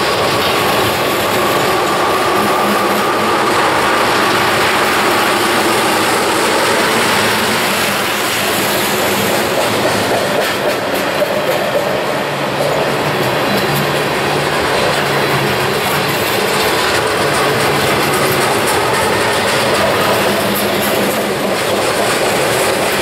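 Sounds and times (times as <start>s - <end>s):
train clacks: 0.0s - 23.0s
train wheels rumbling on rail: 0.0s - 23.0s.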